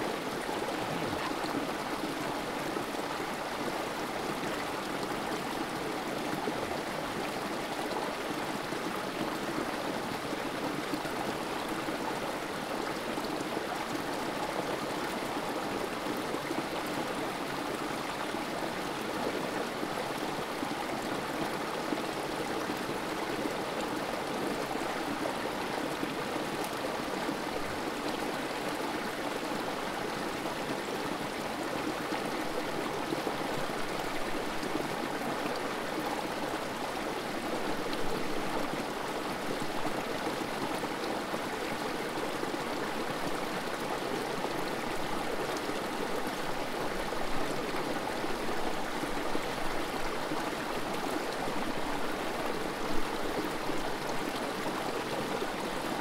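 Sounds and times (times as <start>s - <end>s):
creek water flowing: 0.0s - 56.0s.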